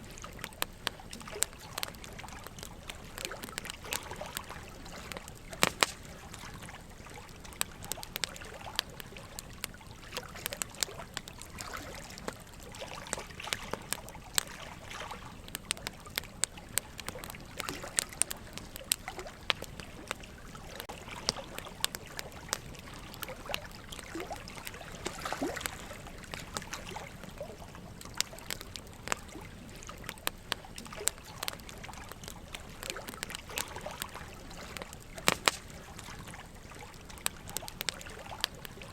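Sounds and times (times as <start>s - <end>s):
trickle of running water: 0.0s - 38.9s
wood fire crackling and popping: 0.0s - 38.9s.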